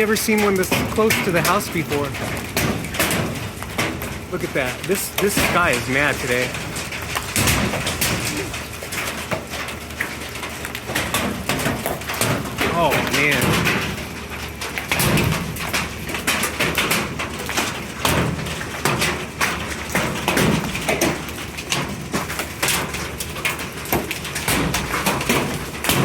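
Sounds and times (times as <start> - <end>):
hailstones clattering: 0.0 - 26.0
hiss of falling ice and rain: 0.0 - 26.0.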